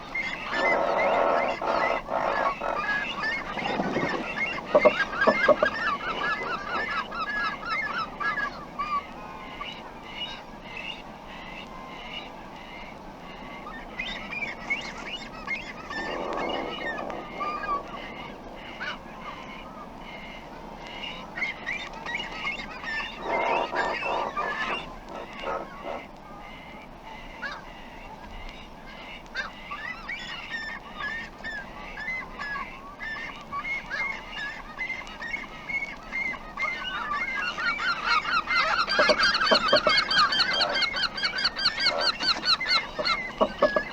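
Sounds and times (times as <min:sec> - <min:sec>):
cormorants calling: 0:00.0 - 0:43.9.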